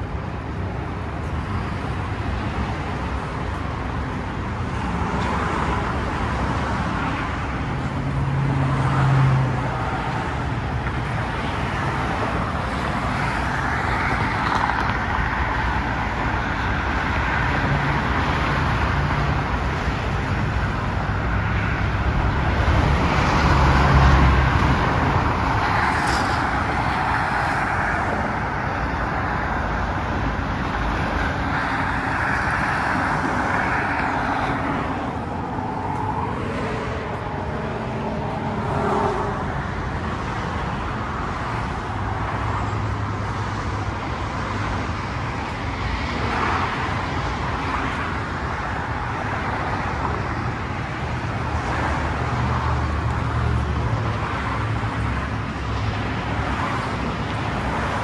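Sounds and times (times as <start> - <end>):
freeway traffic rushing: 0.0 - 58.0.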